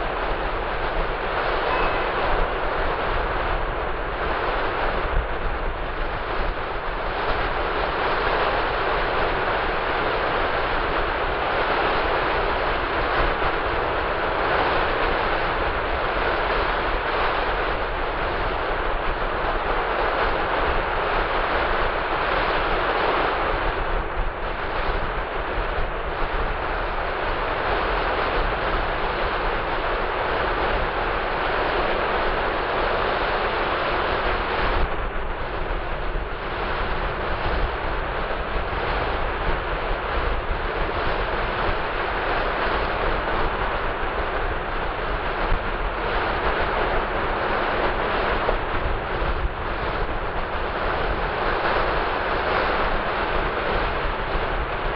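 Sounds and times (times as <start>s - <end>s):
surf washing up a beach: 0.0s - 54.9s
wind rumbling on microphone: 0.0s - 54.9s.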